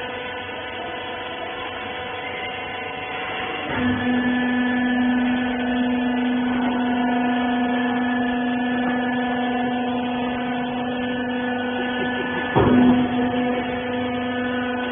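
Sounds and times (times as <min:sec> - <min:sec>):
baler motor humming: 0:00.0 - 0:14.9.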